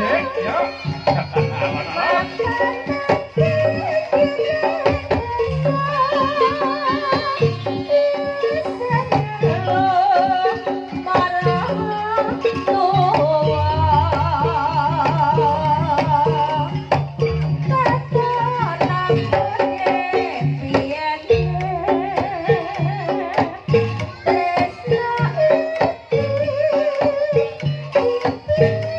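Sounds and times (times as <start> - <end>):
drums beating: 0.0 - 28.9
ornamented melody line: 0.0 - 28.9.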